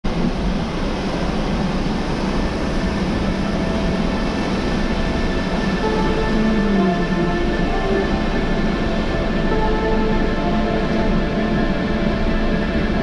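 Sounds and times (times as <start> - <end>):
low hum: 0.1 - 13.0
vehicle running noise: 0.1 - 13.0.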